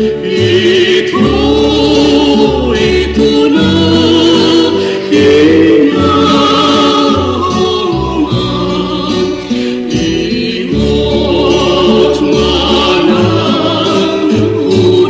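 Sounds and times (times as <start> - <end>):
bass accompaniment: 0.0 - 15.0
vocal group singing in harmony: 0.0 - 15.0.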